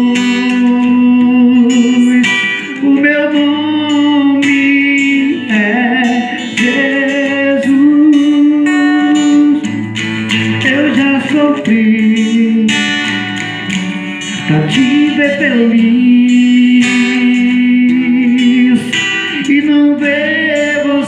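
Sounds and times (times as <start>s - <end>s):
man singing with vibrato: 0.0s - 21.0s
strummed acoustic guitar: 0.0s - 21.0s.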